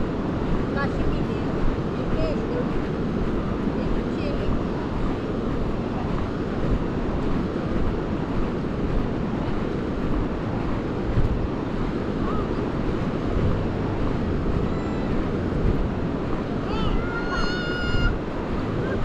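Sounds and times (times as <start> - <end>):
sea surf: 0.0 - 19.0
wind buffeting microphone: 0.0 - 19.0.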